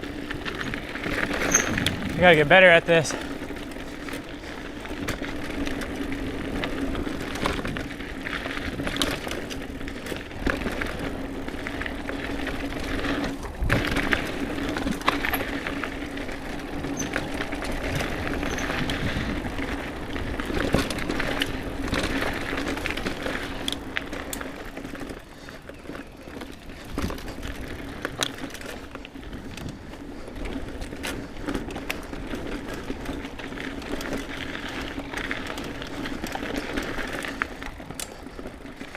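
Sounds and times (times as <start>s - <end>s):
bike knocking and rattling: 0.0s - 38.9s
bike tyres rolling on dirt: 0.0s - 38.9s.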